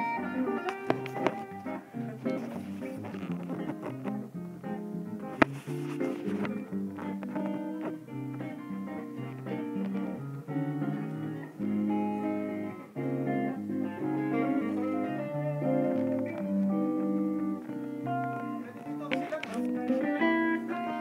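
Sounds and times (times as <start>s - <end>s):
electric guitars jamming: 0.0s - 21.0s.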